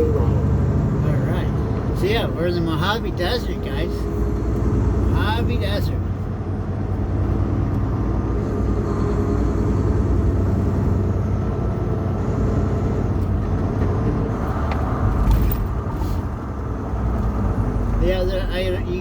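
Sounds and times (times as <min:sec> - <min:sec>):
diesel truck engine rumble: 0:00.0 - 0:19.0
road noise: 0:00.0 - 0:19.0.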